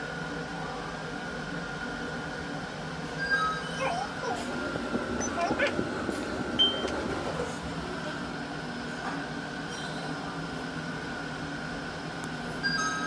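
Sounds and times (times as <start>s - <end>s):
lift mechanical hum and rumble: 0.0s - 13.0s.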